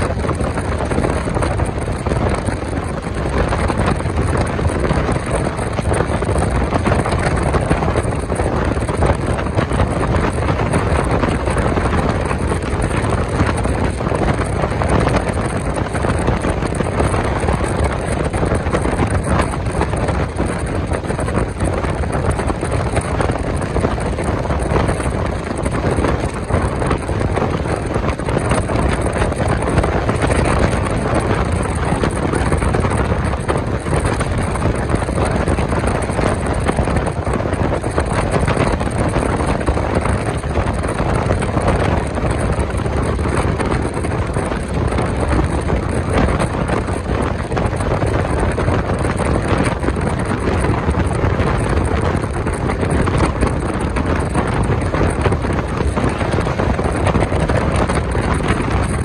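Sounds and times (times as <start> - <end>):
passenger train running: 0.0 - 59.0
wind on microphone: 0.0 - 59.0.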